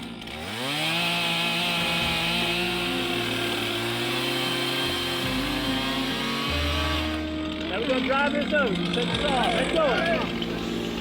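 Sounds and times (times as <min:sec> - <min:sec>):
chainsaw cutting at high revs: 0:00.0 - 0:11.0.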